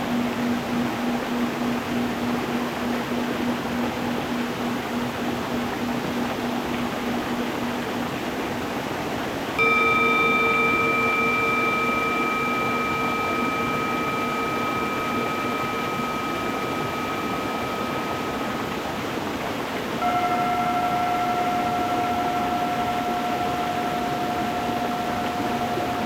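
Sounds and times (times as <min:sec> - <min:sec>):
singing bowl ringing: 0:00.0 - 0:08.9, 0:09.6 - 0:26.0.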